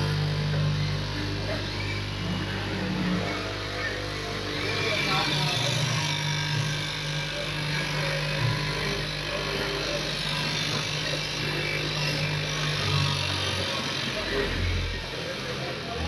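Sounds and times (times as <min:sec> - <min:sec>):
factory machinery humming: 0:00.0 - 0:16.0.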